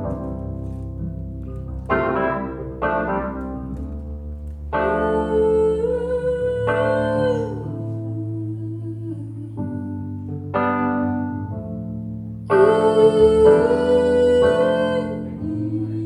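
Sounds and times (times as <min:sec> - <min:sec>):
piano and keyboard chords: 0:00.0 - 0:16.0.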